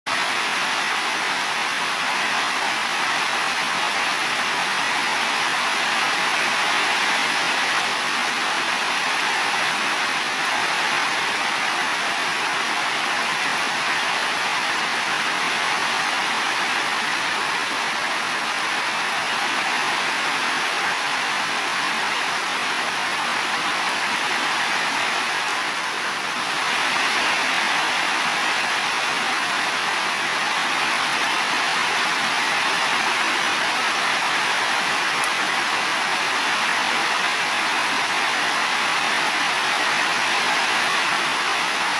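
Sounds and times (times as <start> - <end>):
heavy rain on roofs: 0.0 - 41.9.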